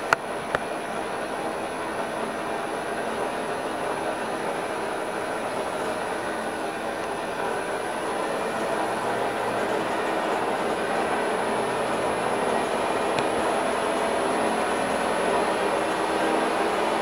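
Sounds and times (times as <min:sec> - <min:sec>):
milling machine humming and whining: 0:00.0 - 0:17.0.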